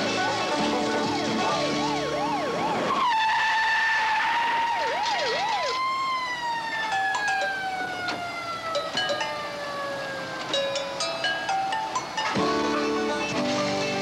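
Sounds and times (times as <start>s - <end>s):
police siren yelping: 0.0s - 12.3s.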